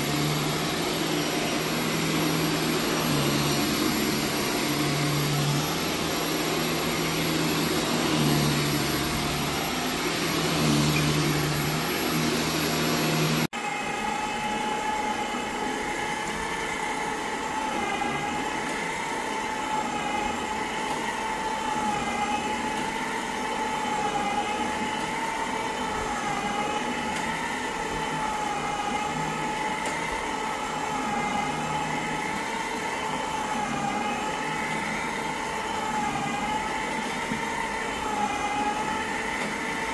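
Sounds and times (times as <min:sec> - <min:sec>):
carpet brush machine motor whine: 0:00.0 - 0:39.9
vacuum cleaner on carpet: 0:00.0 - 0:39.9.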